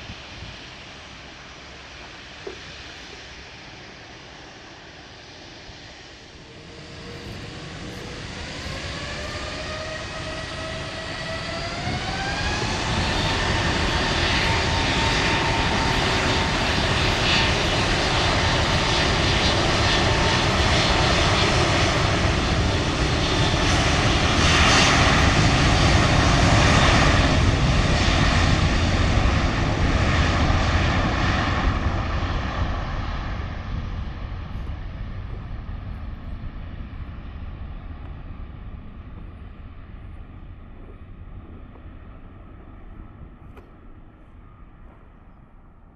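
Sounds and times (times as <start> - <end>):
jet engines spooling up: 0.0 - 45.7.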